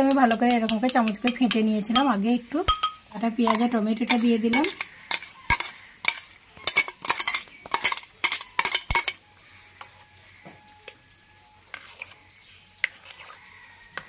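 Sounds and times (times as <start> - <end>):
spoon clinking and scraping bowl: 0.0 - 9.2, 11.6 - 14.0.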